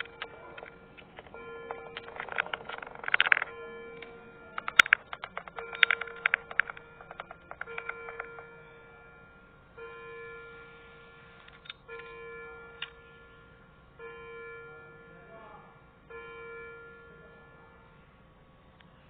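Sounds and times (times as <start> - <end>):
bell-like chime notes: 0.0 - 18.1.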